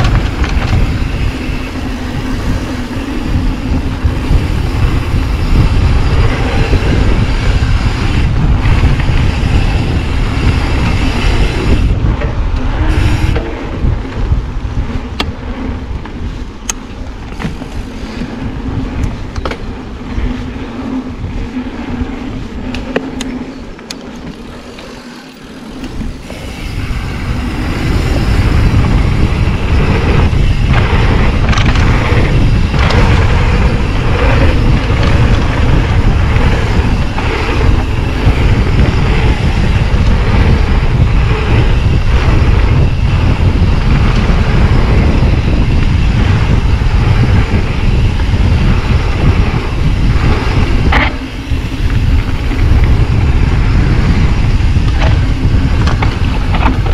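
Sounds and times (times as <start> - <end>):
bike tyres rumbling over dirt: 0.0 - 56.9
wind noise on microphone: 0.0 - 56.9.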